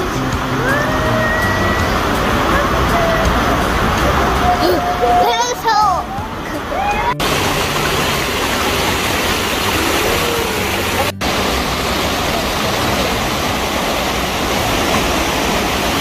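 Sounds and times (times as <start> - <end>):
water rushing in a stream: 0.0 - 16.0.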